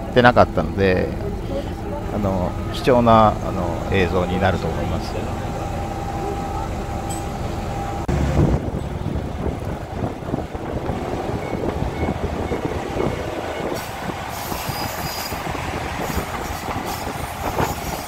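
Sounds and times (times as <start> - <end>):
railcar low rumble: 0.0 - 18.0.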